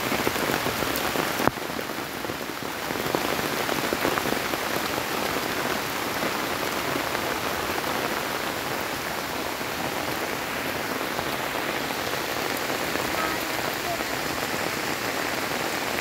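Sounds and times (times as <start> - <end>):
rain on grass and water: 0.0 - 16.0.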